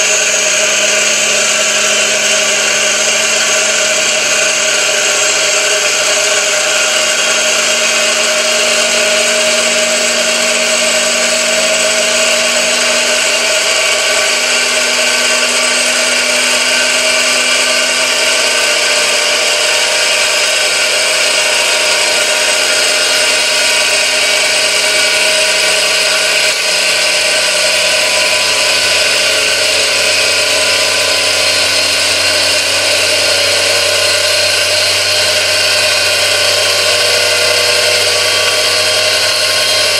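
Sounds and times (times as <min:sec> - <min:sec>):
gearbox whining: 0:00.0 - 0:39.9.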